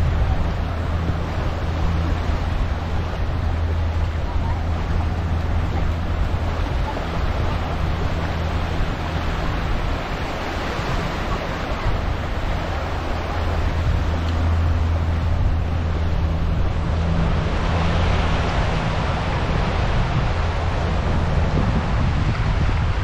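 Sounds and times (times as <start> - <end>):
small waves washing on sand: 0.0 - 23.0
steady low hum: 0.0 - 23.0
wind buffeting microphone: 0.0 - 23.0.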